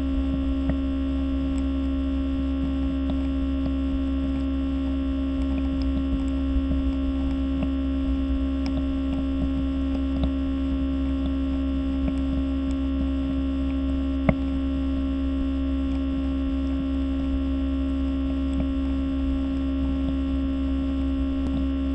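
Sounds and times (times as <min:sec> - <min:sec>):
diffuser humming: 0:00.0 - 0:21.9.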